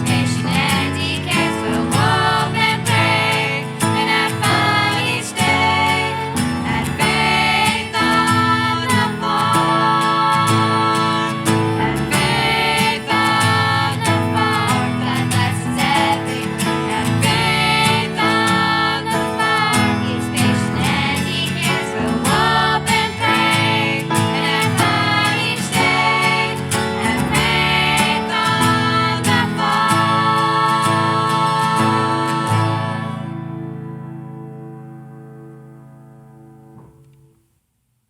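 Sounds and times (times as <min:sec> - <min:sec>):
person singing: 0:00.0 - 0:33.6
acoustic guitar: 0:00.0 - 0:37.6.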